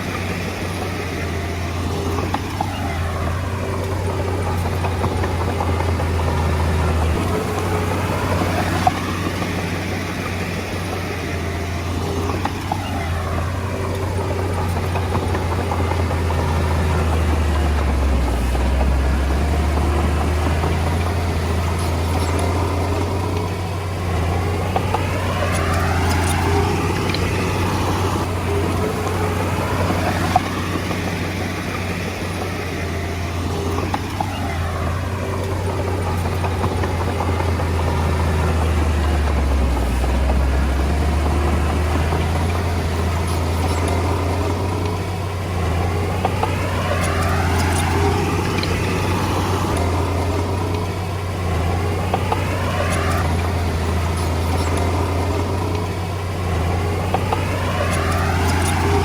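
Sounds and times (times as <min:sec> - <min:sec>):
bulldozer diesel engine humming: 0:00.0 - 0:59.0.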